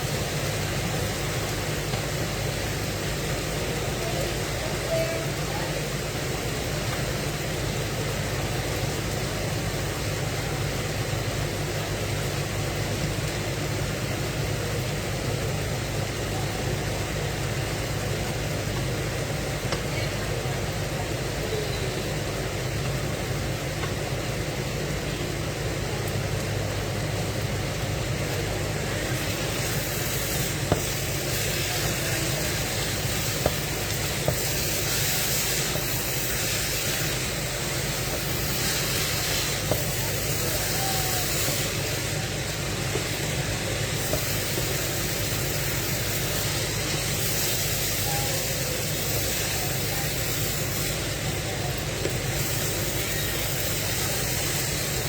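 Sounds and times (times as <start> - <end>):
cooking hiss: 0.0 - 55.0.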